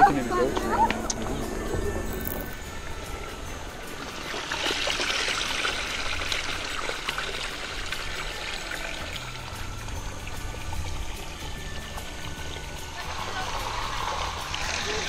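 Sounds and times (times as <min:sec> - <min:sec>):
water trickling down fountain basins: 0:00.0 - 0:15.0.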